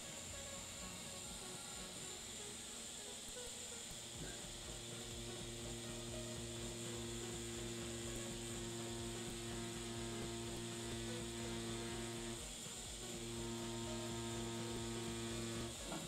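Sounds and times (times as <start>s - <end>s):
tattoo machine humming: 0.0s - 16.0s.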